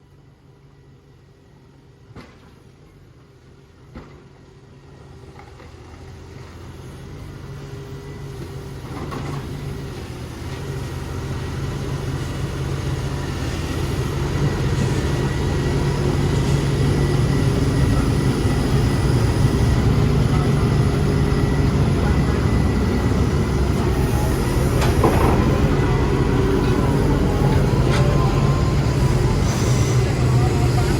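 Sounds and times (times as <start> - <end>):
excavator diesel engine running: 2.8 - 30.9.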